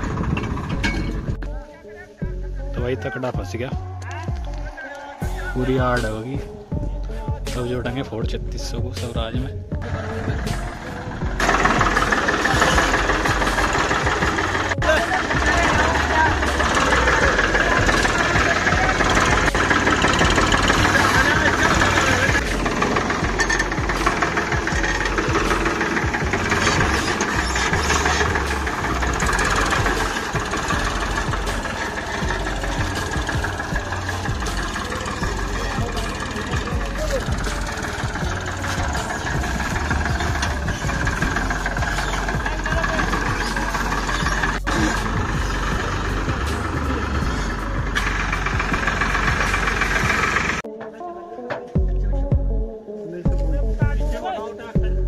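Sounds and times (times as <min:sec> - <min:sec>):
tractor diesel engine running: 0:00.0 - 0:50.7.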